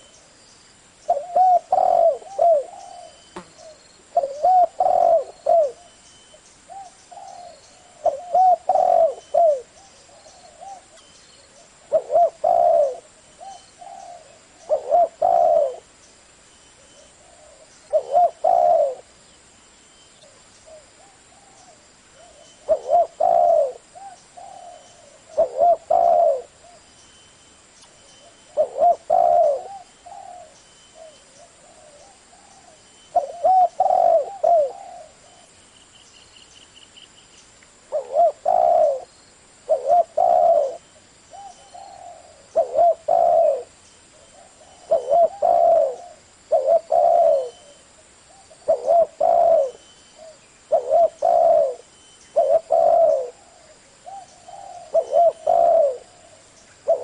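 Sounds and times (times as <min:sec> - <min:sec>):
dove cooing: 0:01.1 - 0:06.0, 0:06.7 - 0:15.9, 0:16.8 - 0:19.1, 0:20.2 - 0:26.9, 0:28.2 - 0:35.6, 0:37.9 - 0:39.1, 0:39.7 - 0:57.0.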